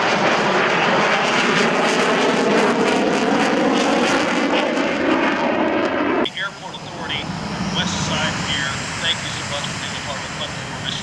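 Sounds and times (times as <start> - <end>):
jet aircraft roaring past: 0.0 - 11.0.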